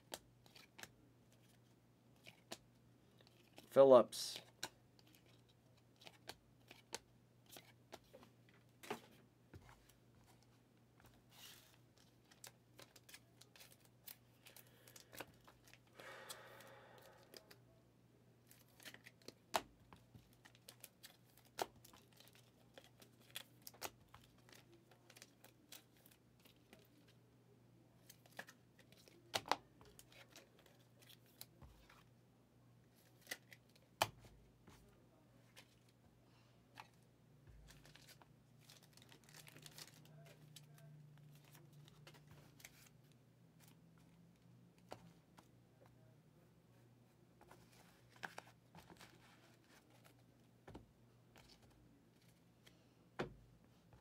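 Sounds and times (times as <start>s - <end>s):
cards rustling: 0.1s - 17.6s, 18.4s - 27.2s, 28.0s - 32.1s, 32.9s - 36.0s, 36.7s - 44.2s, 47.4s - 52.8s.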